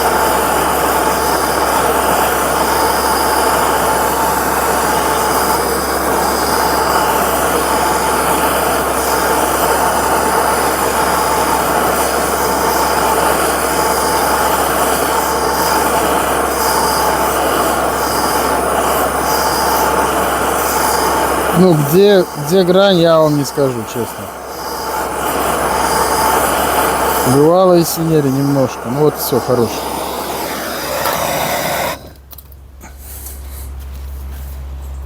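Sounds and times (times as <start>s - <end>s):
heating tool rushing blast: 0.0s - 32.2s.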